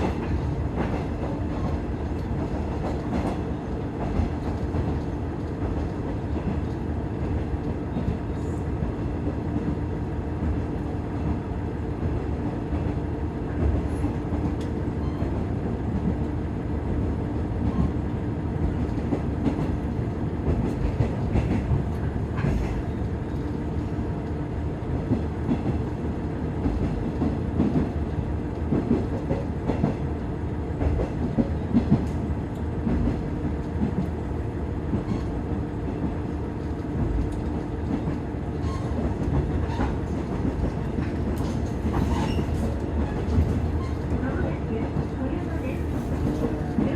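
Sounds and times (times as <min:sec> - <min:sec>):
railcar rumbling along track: 0:00.0 - 0:46.9.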